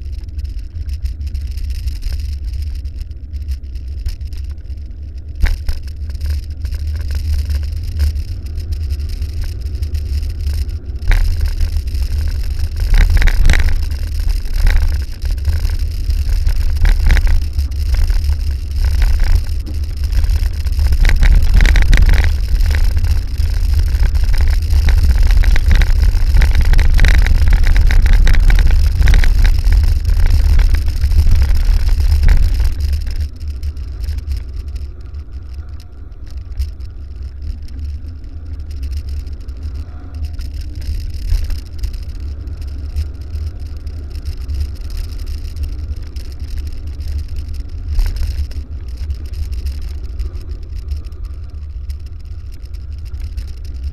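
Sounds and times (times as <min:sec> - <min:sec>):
bicycle tyres rattling on gravel: 0:00.0 - 0:53.9
wind buffeting microphone: 0:00.0 - 0:53.9.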